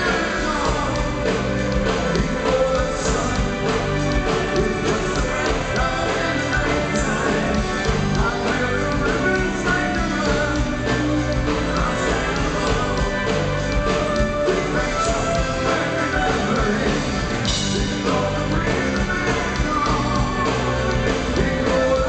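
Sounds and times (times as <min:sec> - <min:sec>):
bass guitar: 0:00.0 - 0:22.0
drum kit steady beat: 0:00.0 - 0:22.0
electric and acoustic guitars: 0:00.0 - 0:22.0
keyboards: 0:00.0 - 0:22.0
voices singing: 0:00.0 - 0:22.0.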